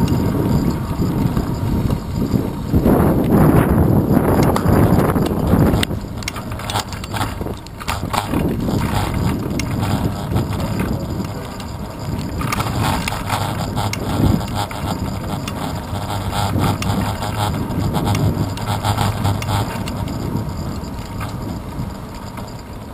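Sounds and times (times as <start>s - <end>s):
bicycle rattling over bumps: 0.0s - 22.9s
road and wind rumble: 0.0s - 22.9s.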